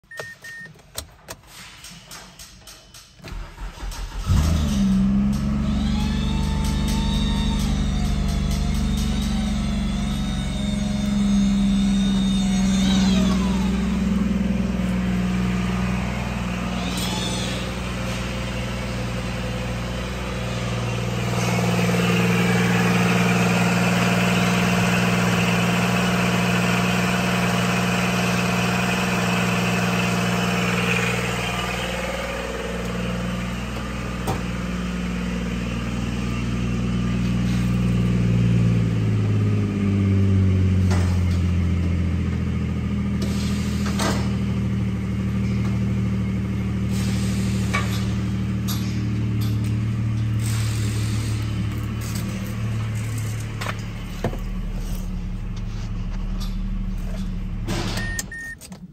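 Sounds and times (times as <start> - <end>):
car engine idling: 3.3 - 58.9.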